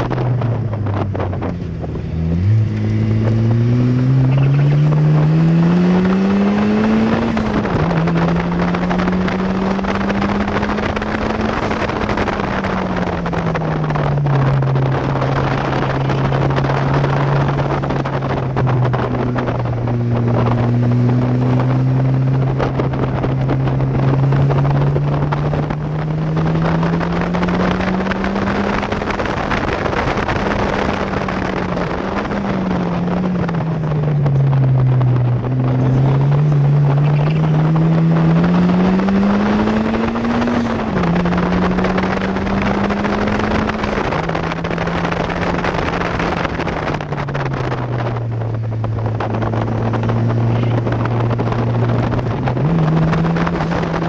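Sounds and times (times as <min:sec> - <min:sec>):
car engine accelerating: 0:00.0 - 0:54.0
wind rush on microphone: 0:00.0 - 0:54.0.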